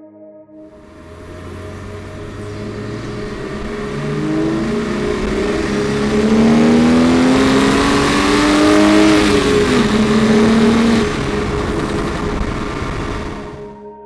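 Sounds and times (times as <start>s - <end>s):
car engine accelerating hard: 0.6s - 13.8s
tyre and road noise: 0.7s - 13.7s.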